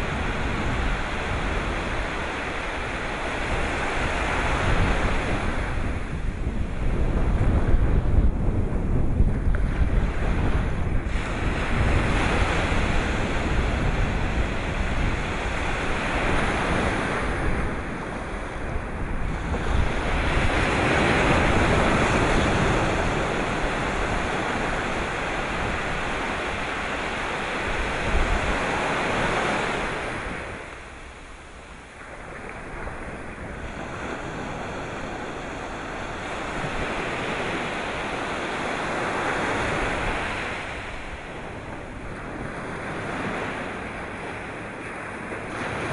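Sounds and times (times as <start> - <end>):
sea surf washing ashore: 0.0 - 45.9
wind buffeting microphone: 0.0 - 45.9.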